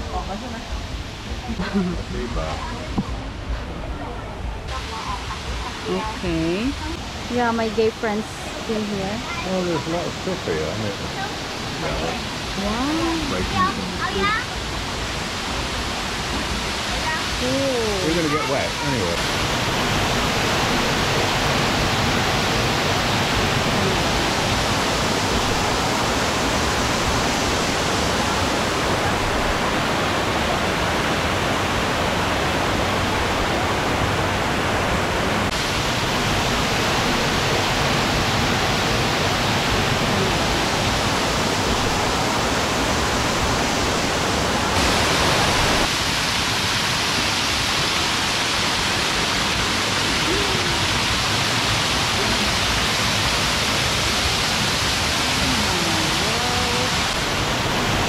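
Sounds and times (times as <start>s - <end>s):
waterfall pouring into pool: 9.3s - 34.6s, 35.2s - 58.0s.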